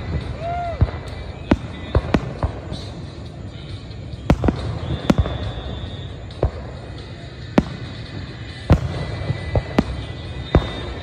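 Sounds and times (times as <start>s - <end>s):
fireworks shells bursting: 0.0s - 11.0s.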